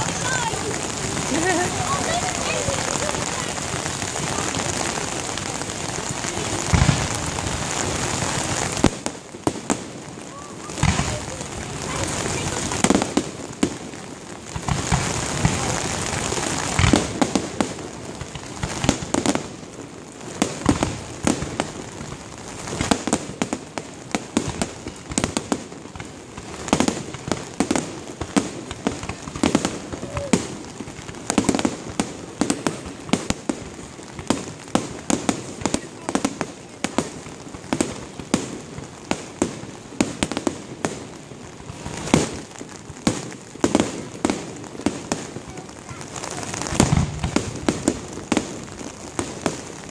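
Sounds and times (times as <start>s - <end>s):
dense hissing crackle: 0.0s - 49.9s
fireworks bursting and crackling: 0.0s - 49.9s.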